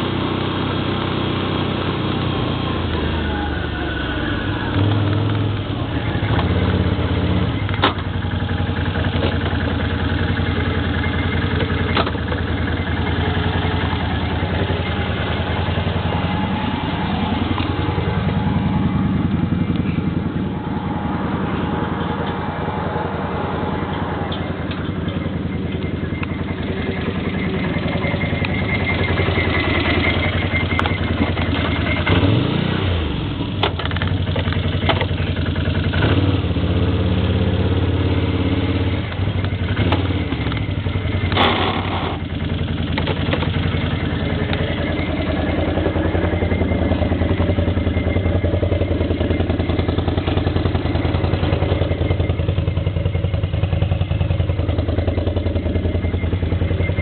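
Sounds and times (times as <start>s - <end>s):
quad bike engine running: 0.0s - 57.0s.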